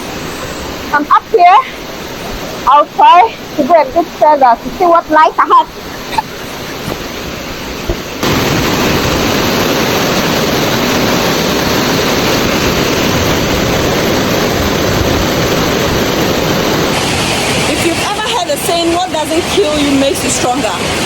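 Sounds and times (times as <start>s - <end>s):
waterfall rushing: 0.0s - 21.0s
wind buffeting microphone: 0.0s - 21.0s.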